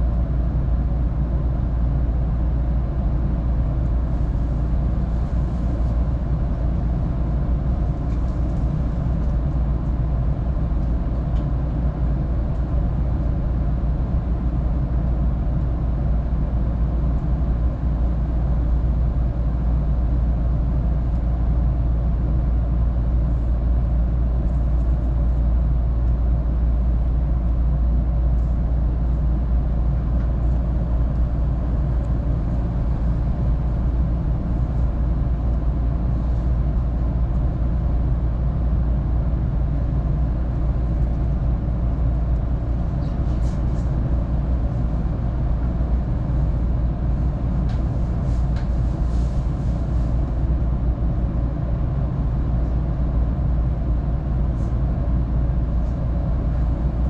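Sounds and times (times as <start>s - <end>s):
train equipment rumble and hum: 0.0s - 57.0s.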